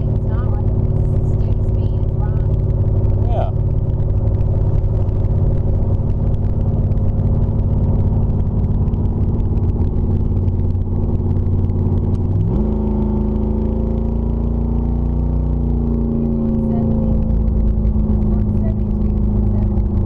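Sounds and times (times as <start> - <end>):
car engine exhaust note: 0.0 - 20.0.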